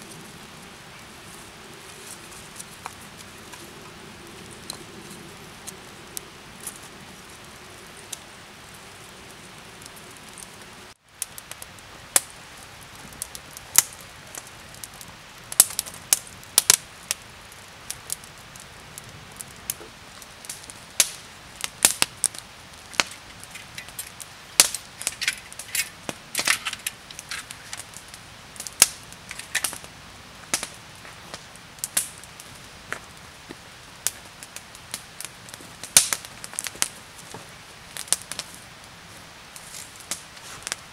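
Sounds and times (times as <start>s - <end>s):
low steady hiss: 0.0s - 40.9s
wood fire crackling and popping: 0.0s - 40.9s.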